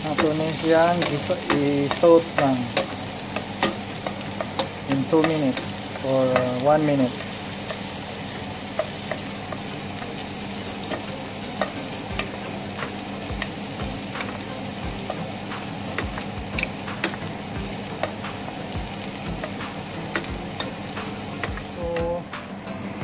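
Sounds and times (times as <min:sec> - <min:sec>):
onion sizzling in hot oil: 0:00.0 - 0:23.0
spatula tapping against pan: 0:00.1 - 0:22.1.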